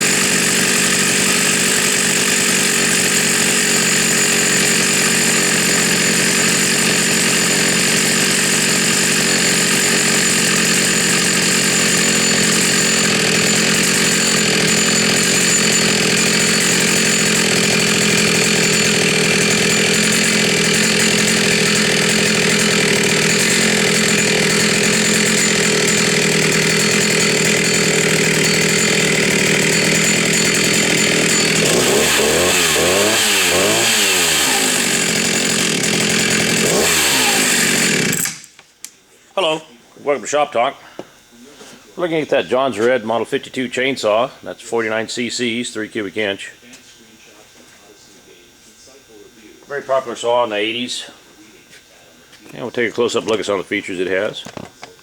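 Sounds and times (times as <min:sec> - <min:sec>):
chainsaw running at high revs: 0:00.0 - 0:38.6, 0:42.0 - 0:51.2, 0:52.4 - 0:54.7.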